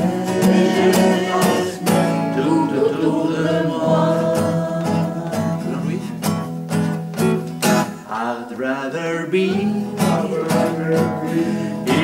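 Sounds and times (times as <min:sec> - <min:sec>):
sliding guitar melody: 0:00.0 - 0:12.0
strummed blues guitar: 0:00.0 - 0:12.0.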